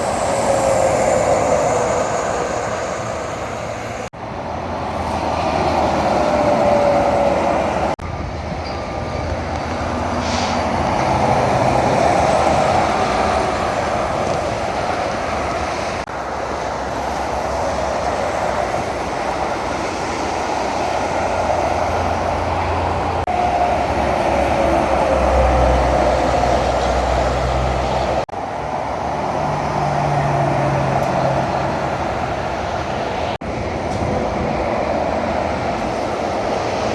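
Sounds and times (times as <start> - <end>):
heavy trucks passing on highway: 0.0 - 36.9.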